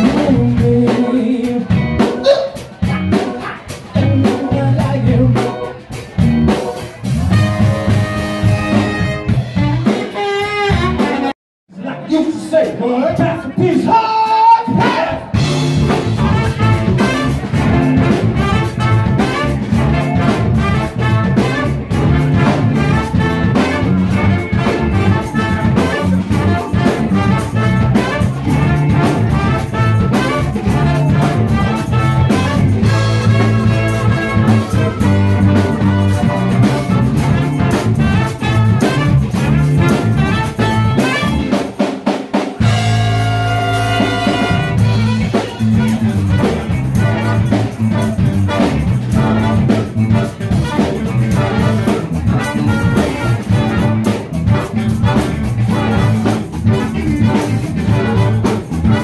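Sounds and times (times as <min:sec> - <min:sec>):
live band dance groove with horns: 0:00.0 - 0:11.4, 0:12.0 - 0:59.0.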